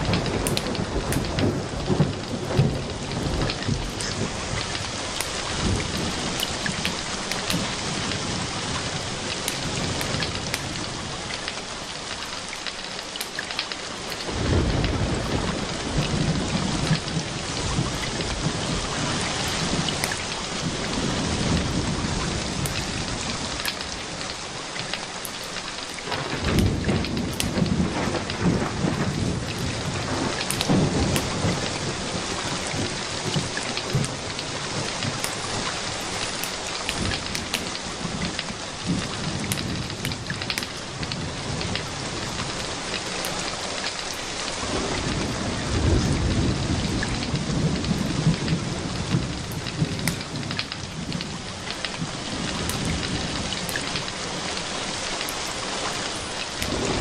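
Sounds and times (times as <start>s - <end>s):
rain falling: 0.0s - 57.0s
thunder rumbling: 0.0s - 57.0s.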